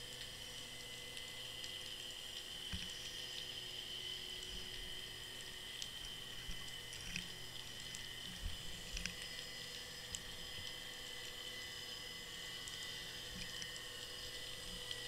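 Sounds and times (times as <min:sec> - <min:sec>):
steady high underwater hum: 0:00.0 - 0:15.0.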